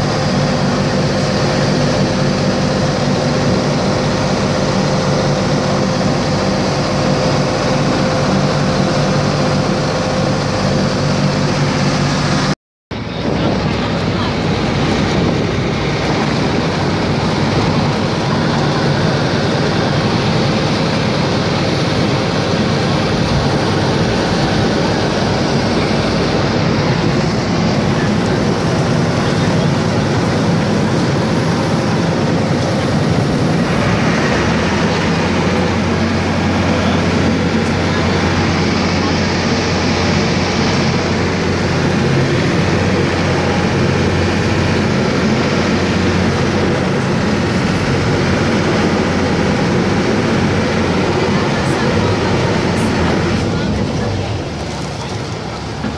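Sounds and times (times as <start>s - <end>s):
boat engine drone: 0.0s - 55.9s
low hum: 0.0s - 55.9s
water rushing along hull: 0.0s - 55.9s.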